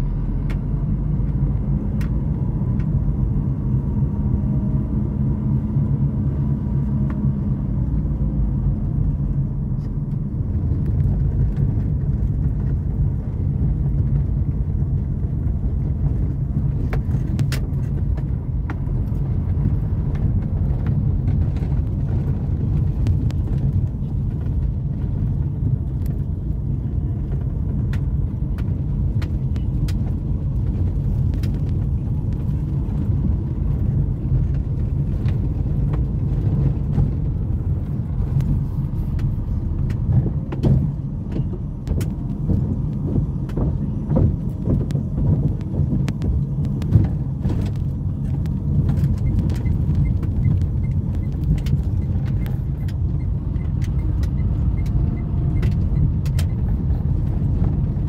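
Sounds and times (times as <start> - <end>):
tyres rumbling over cobblestones: 0.0 - 58.0
car crossing wooden plank bridge: 9.8 - 58.0.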